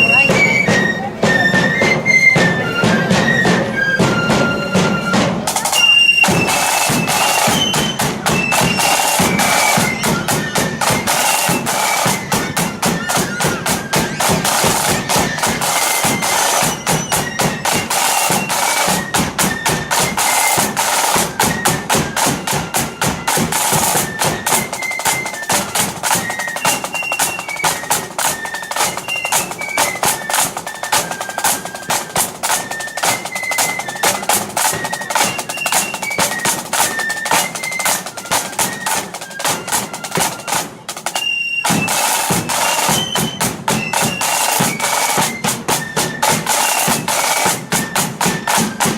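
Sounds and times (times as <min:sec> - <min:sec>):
flute melody: 0:00.0 - 0:48.9
snare drum rolls: 0:00.0 - 0:48.9.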